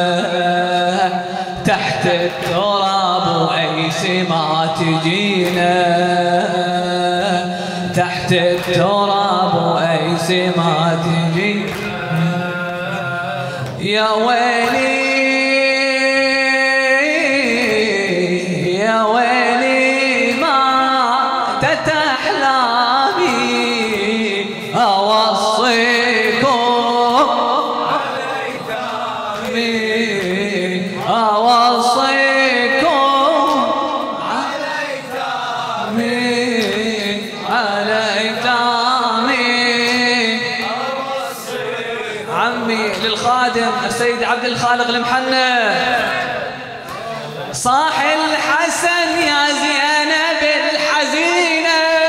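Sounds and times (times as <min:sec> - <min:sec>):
man chanting a lament: 0:00.0 - 0:52.0.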